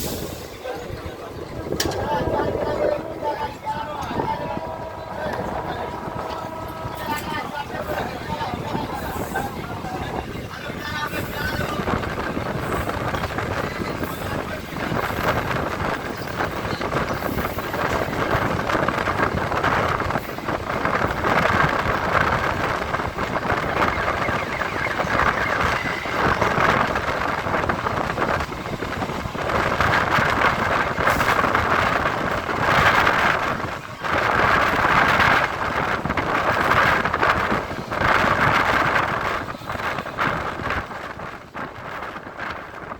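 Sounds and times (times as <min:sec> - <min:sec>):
train rumbling: 0:00.0 - 0:42.9
wind across microphone: 0:00.0 - 0:42.9.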